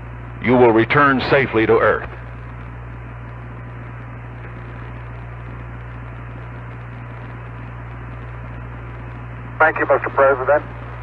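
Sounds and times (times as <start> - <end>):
low mains hum: 0.0 - 11.0
radio static hiss: 0.0 - 11.0.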